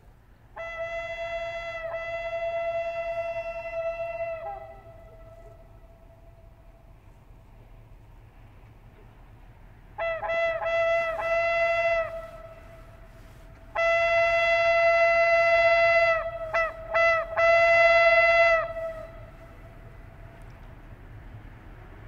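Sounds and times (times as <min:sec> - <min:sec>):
locomotive air horn blasts: 0:00.0 - 0:22.0.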